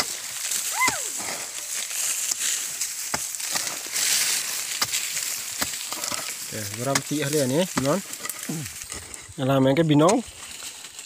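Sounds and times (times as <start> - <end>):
digging tool scraping dry soil: 0.0 - 11.0.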